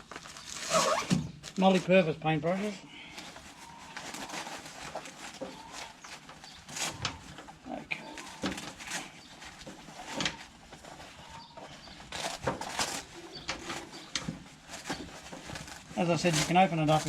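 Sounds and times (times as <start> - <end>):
fabric bag rustling: 0.0 - 17.0.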